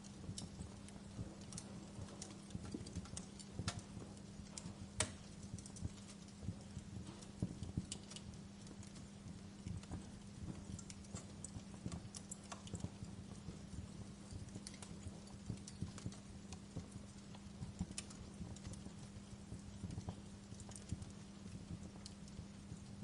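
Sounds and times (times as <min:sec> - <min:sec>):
low steady hum: 0:00.0 - 0:23.0
wood fire crackling and popping: 0:00.0 - 0:23.0.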